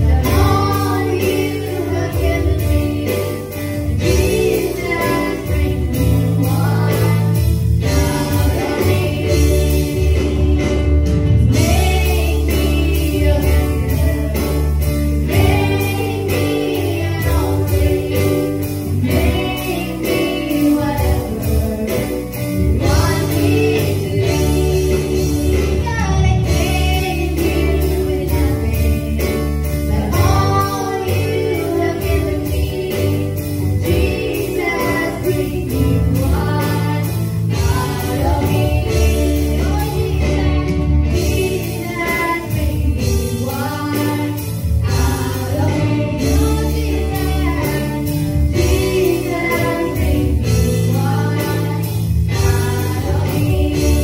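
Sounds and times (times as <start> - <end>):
band with steady beat: 0.0 - 54.0
group of singers: 0.0 - 54.0.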